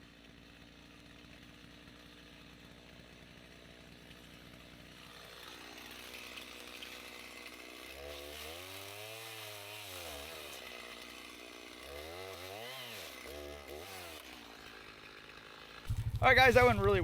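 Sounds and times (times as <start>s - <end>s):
chainsaw cutting wood: 0.0s - 17.0s
chainsaw idling and revving: 0.0s - 17.0s.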